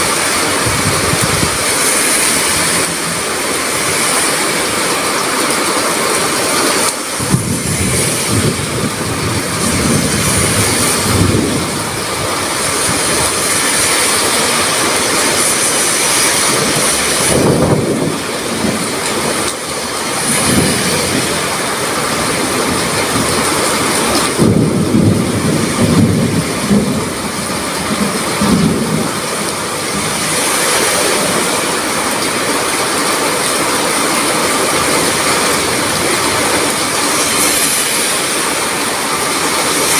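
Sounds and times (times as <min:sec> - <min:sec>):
low rumbling: 0:00.0 - 0:33.7
heavy rain pouring: 0:00.0 - 0:39.9
strong wind: 0:00.0 - 0:39.9.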